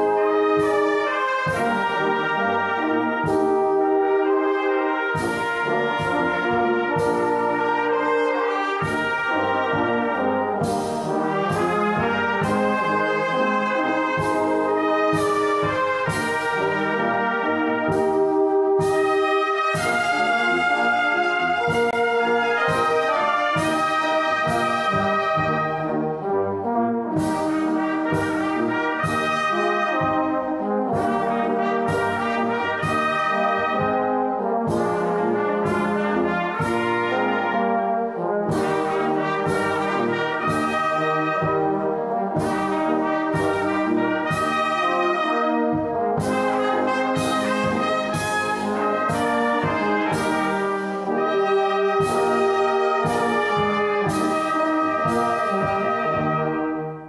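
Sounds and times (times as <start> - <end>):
brass band playing a hymn: 0.0 - 57.0.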